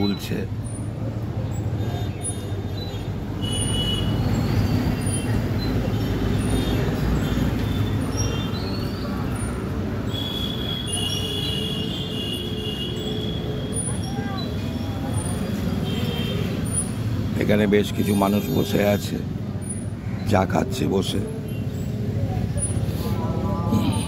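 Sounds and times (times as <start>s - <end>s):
traffic rumble: 0.0s - 24.0s
swing chains squeaking: 0.5s - 20.0s, 21.4s - 24.0s.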